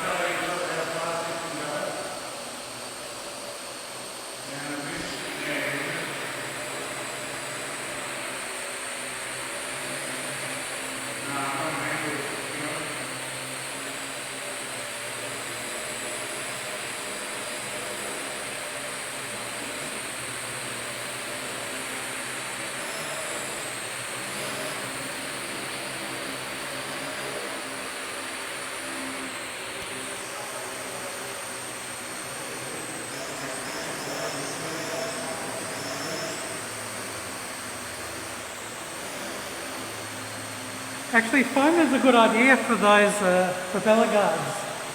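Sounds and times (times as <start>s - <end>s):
drone propellers whirring: 0.0s - 44.9s.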